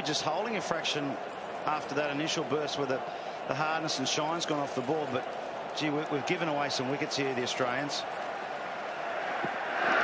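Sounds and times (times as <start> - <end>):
stadium crowd hum: 0.0 - 10.0.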